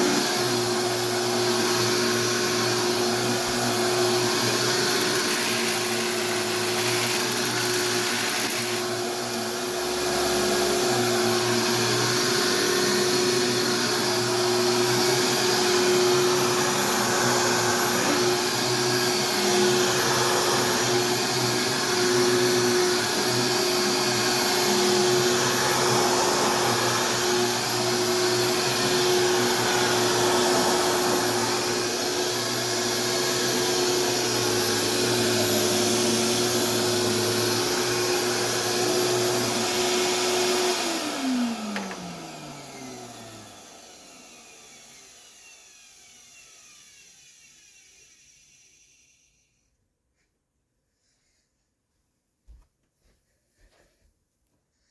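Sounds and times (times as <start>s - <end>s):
vacuum cleaner running on carpet: 0.0s - 47.7s.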